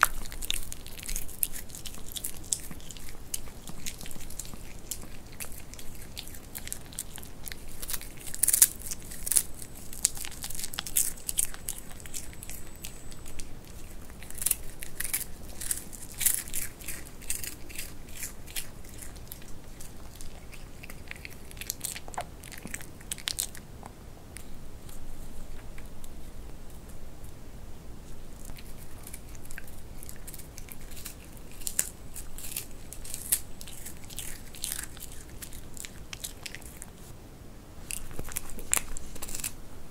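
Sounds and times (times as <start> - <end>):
dog crunching chips: 0.0 - 23.7, 28.3 - 37.1, 37.8 - 39.6.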